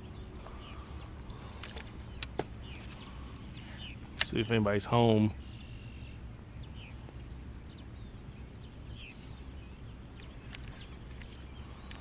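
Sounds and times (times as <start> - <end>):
faint bird chirps: 0.0 - 12.0
low background ambience: 0.0 - 12.0.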